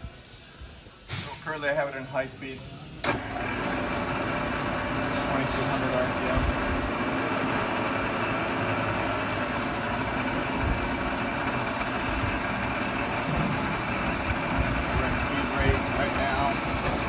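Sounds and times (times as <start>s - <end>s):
milling machine motor hum: 3.0s - 17.0s.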